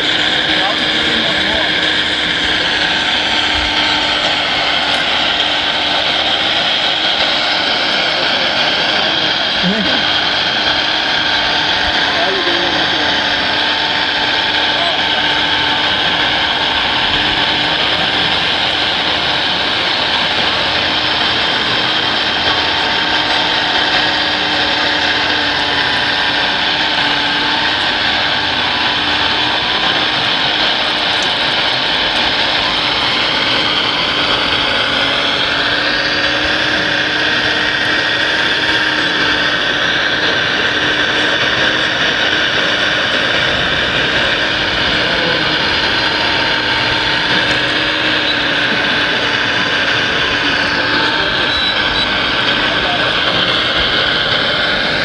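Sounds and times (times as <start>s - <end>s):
model truck motors whining: 0.0s - 55.0s.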